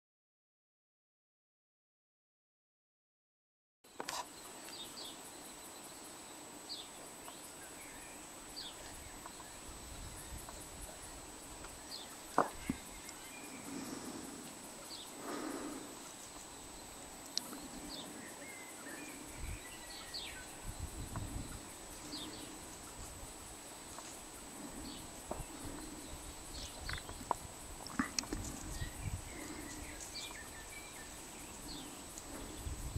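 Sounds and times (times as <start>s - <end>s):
rustles: 3.9s - 32.9s.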